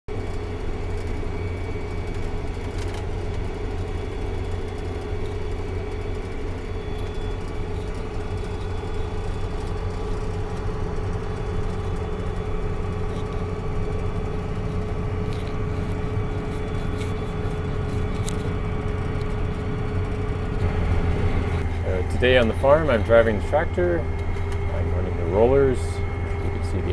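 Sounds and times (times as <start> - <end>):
tractor engine running: 0.1 - 26.9.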